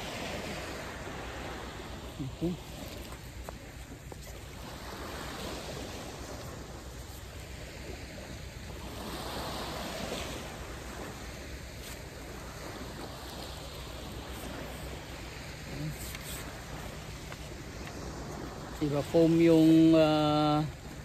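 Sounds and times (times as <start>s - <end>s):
small waves washing onto sand: 0.0s - 21.0s
wind on microphone: 0.0s - 21.0s.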